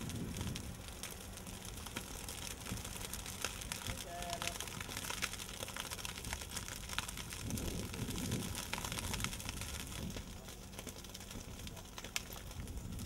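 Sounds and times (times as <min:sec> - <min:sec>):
grass and brush burning: 0:00.0 - 0:13.0.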